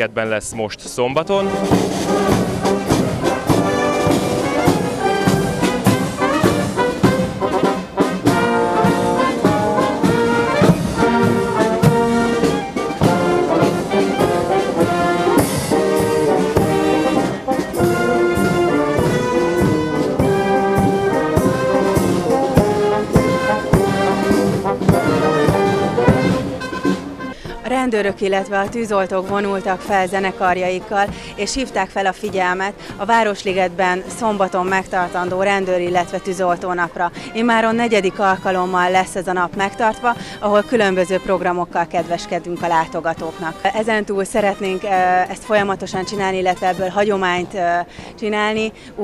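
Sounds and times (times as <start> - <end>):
brass band playing: 0.0 - 47.8.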